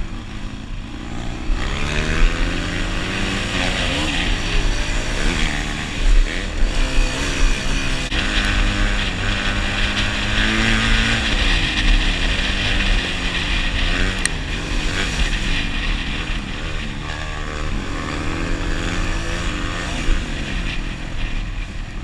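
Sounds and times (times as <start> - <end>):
motorcycle engine revving: 0.0 - 22.0
wind rumble on microphone: 1.3 - 22.0.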